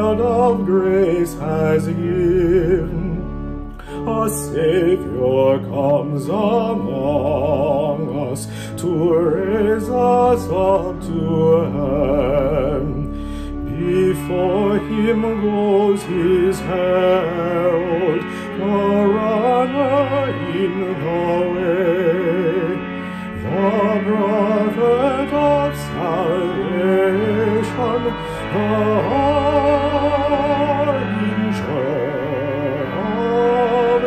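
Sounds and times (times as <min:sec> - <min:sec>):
man singing with vibrato: 0:00.0 - 0:34.0
organ sustained chords: 0:00.0 - 0:34.0.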